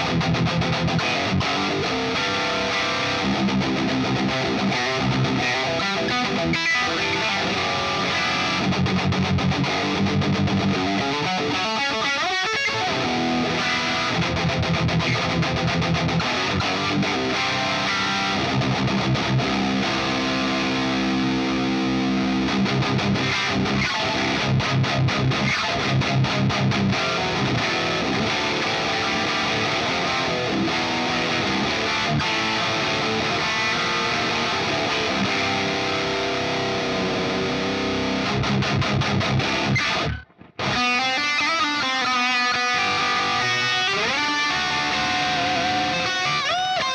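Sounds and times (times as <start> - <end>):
distorted electric guitar riffing: 0.0 - 46.9.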